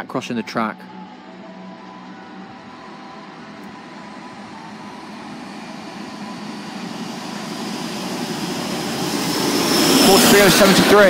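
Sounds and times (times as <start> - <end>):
diesel train rumbling: 0.0 - 11.0.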